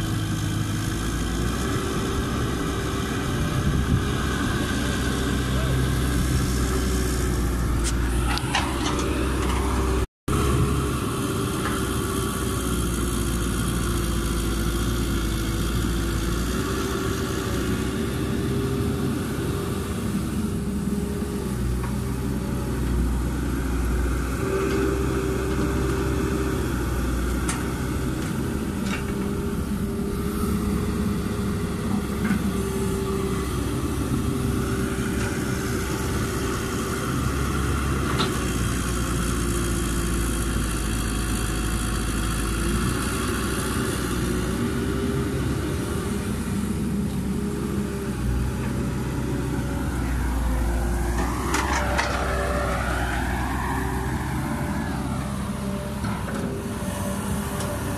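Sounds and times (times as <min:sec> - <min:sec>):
excavator diesel engine under load: 0:00.0 - 0:57.9.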